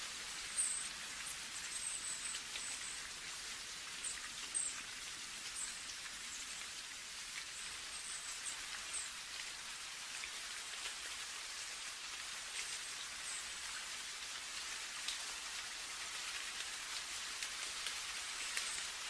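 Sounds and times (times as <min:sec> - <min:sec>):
rain drops ticking: 0:00.0 - 0:19.0
steady rain: 0:00.0 - 0:19.0.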